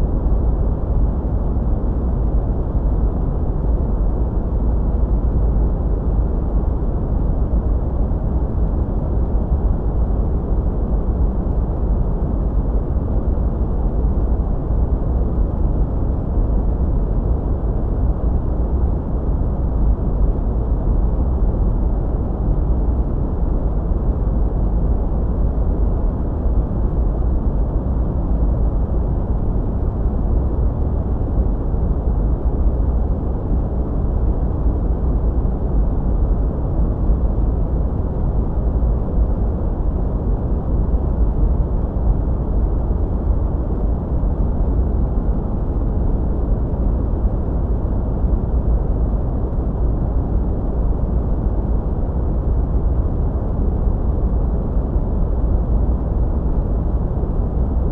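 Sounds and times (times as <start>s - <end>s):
deep muffled noise rush: 0.0s - 57.9s.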